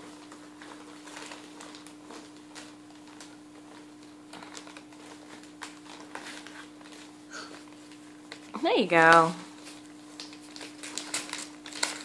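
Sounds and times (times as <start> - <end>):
boxed present rustling: 0.0 - 12.0
foil gift wrap crinkling: 0.0 - 12.0.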